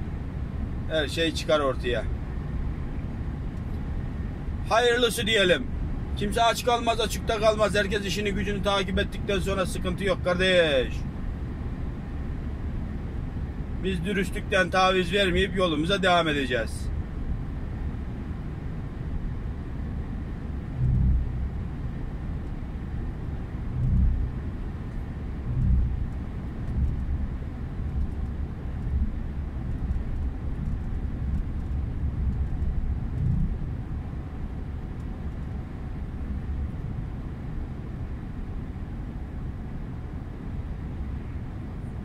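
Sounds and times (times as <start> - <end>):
truck cab engine and road rumble: 0.0 - 42.0.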